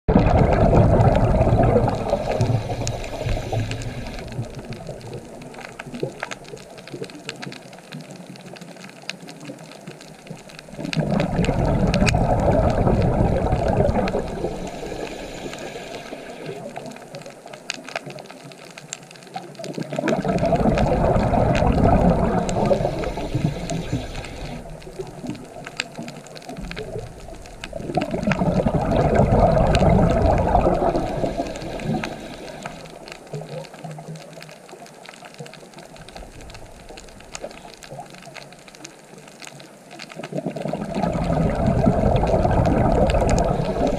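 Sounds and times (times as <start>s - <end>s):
underwater air bubbles gurgling: 0.1s - 43.9s
faint clicks: 0.2s - 43.9s.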